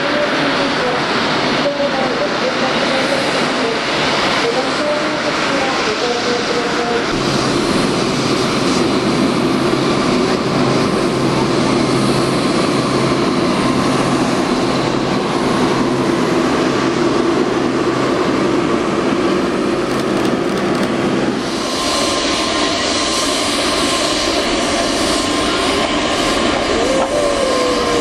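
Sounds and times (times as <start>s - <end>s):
jet aircraft taxiing: 0.0s - 28.0s.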